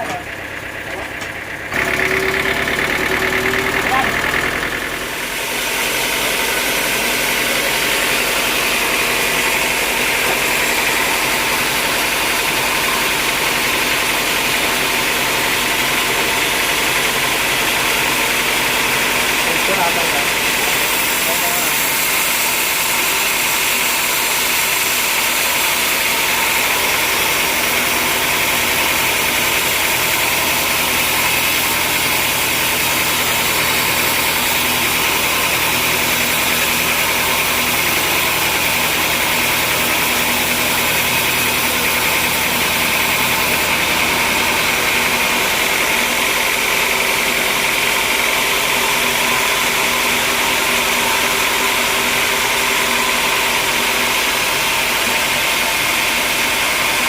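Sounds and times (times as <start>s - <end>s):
sawmill machinery drone with hiss: 0.0s - 57.0s.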